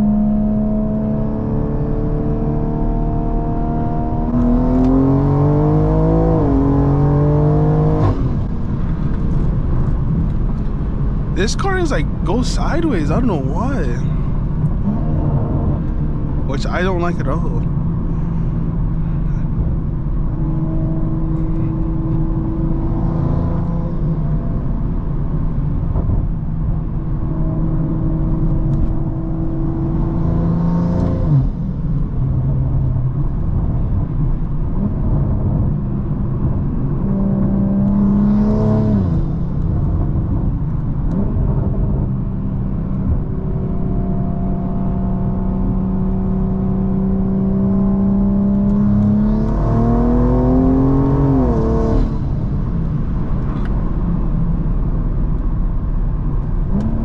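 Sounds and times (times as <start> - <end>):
car engine accelerating: 0.0 - 25.2, 34.7 - 55.4.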